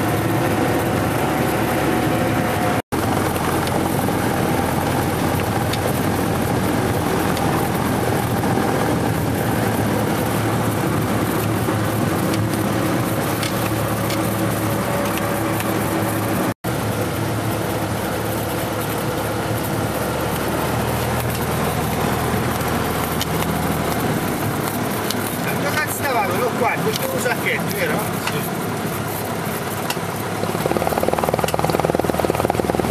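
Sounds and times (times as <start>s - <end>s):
propeller aircraft engine running: 0.0s - 32.9s.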